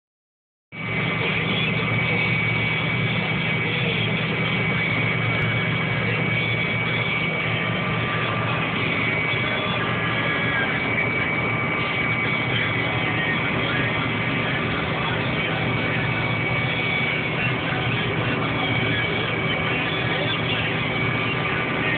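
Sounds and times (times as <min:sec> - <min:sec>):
steady high whine: 0:00.7 - 0:21.9
combine harvester machinery hum: 0:00.8 - 0:21.9.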